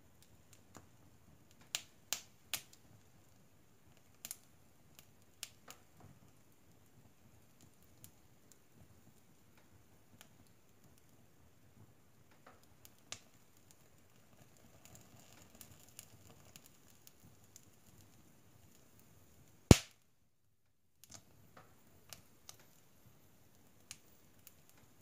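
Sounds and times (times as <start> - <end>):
wood fire crackling and popping: 0.0 - 20.0, 21.0 - 25.0.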